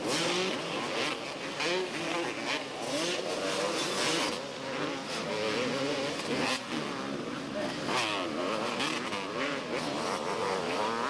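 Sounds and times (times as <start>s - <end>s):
motocross bikes revving: 0.0s - 11.0s.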